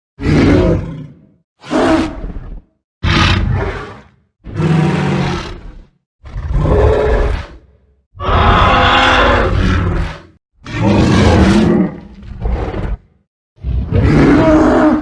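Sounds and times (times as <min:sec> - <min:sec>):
dinosaur roar: 0:00.2 - 0:15.0.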